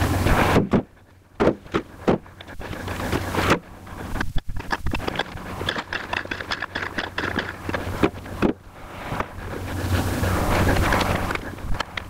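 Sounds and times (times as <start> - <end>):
steady low hum: 0.0 - 12.0
wind on microphone: 1.9 - 12.0.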